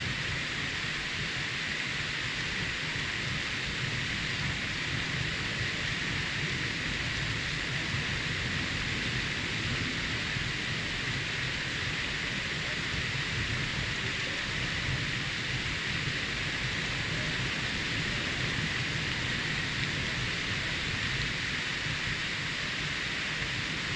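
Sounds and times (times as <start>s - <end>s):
heavy rain hissing: 0.0s - 23.9s
low rumble: 0.0s - 23.9s.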